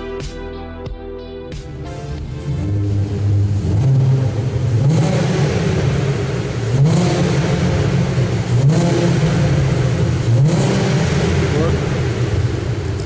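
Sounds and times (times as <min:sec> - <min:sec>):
car engine accelerating: 0:01.7 - 0:13.0.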